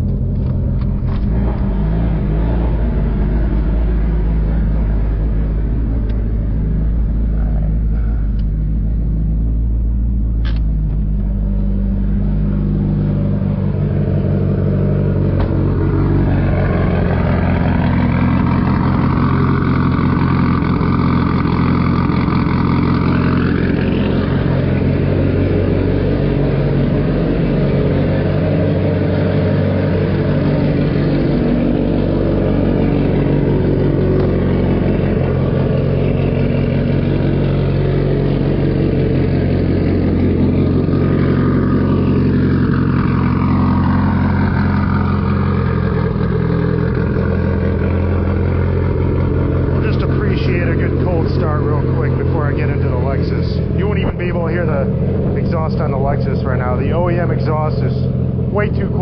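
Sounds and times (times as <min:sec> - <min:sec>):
car engine running: 0:00.0 - 0:59.0
rising turbo whine: 0:00.0 - 0:59.0.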